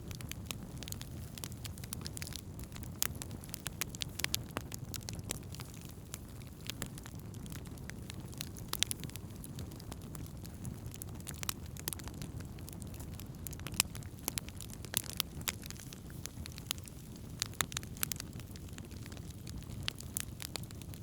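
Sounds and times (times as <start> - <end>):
campfire crackling and popping: 0.0 - 21.0
flames rushing: 0.1 - 21.0.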